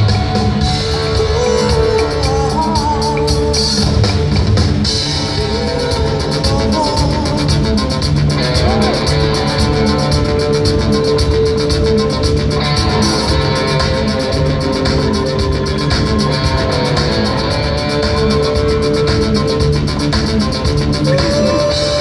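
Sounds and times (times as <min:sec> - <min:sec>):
bass guitar: 0:00.0 - 0:22.0
drum kit beat: 0:00.0 - 0:22.0
electric guitars: 0:00.0 - 0:22.0
keyboards: 0:00.0 - 0:22.0.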